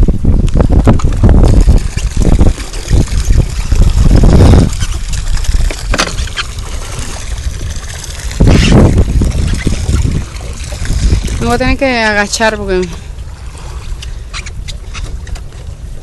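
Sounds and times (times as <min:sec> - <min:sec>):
water splashing against boat: 0:00.0 - 0:16.0.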